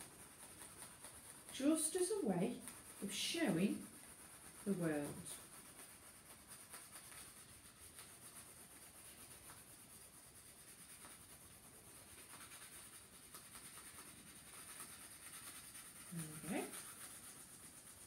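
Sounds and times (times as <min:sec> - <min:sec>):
crayon scratching on paper plate: 0:00.0 - 0:18.0.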